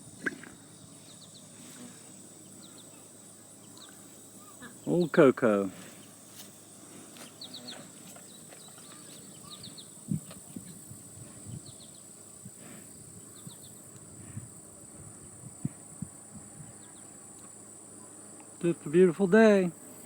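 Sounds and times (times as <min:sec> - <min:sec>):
insect chirps: 0:00.0 - 0:20.0
insect high drone: 0:00.0 - 0:20.0.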